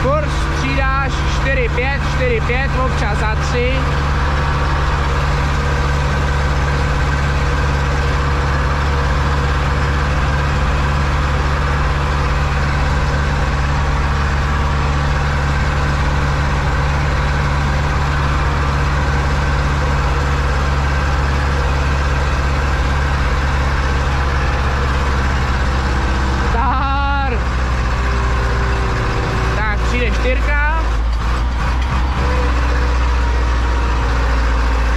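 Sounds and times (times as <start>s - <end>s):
tractor diesel engine droning: 0.0s - 34.9s.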